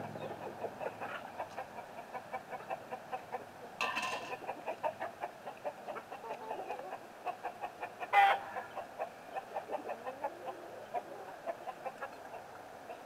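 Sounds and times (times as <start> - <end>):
chicken squawk: 0.0 - 3.5, 4.4 - 12.4
chickens clucking: 0.0 - 13.0.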